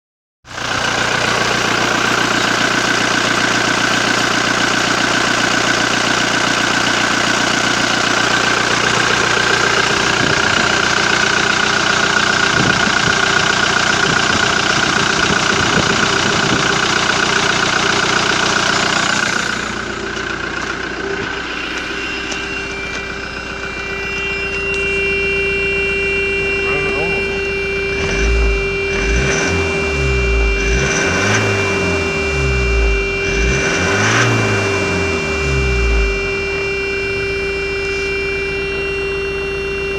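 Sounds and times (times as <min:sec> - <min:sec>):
diesel engine idling: 0:00.5 - 0:39.9.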